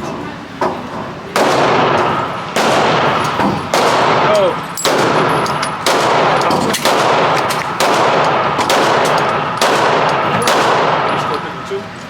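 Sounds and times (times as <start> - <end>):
gunshots with long echo: 1.3 - 11.4.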